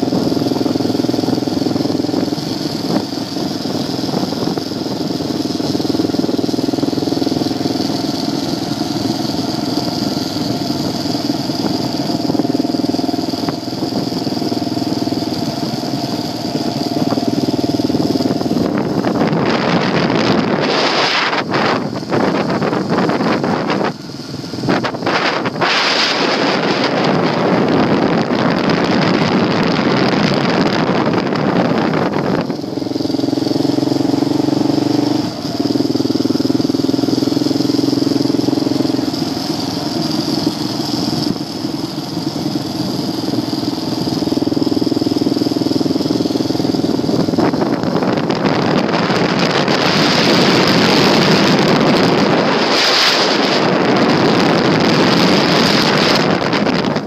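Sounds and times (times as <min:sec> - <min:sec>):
engine hum: 0:00.0 - 0:57.0
road noise on gravel: 0:00.0 - 0:57.0
wind on microphone: 0:09.0 - 0:57.0.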